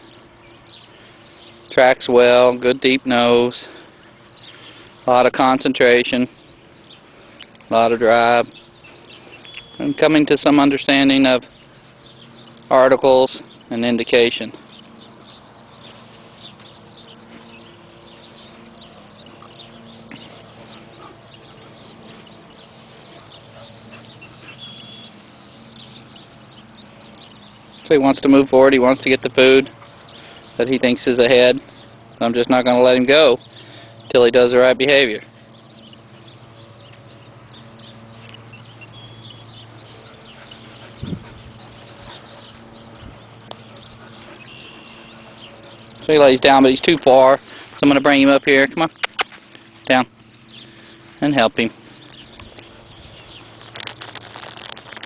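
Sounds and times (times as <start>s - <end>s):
low steady hum: 0.0s - 55.0s
faint bird calls: 3.2s - 55.0s.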